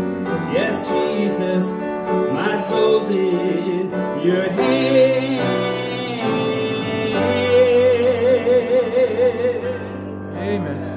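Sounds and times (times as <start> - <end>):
grand piano chords: 0.0 - 10.9.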